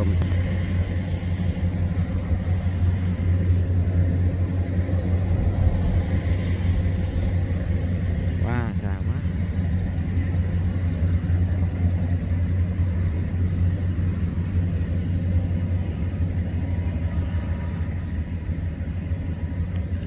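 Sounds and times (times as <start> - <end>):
combine harvester engine rumble: 0.0 - 20.0.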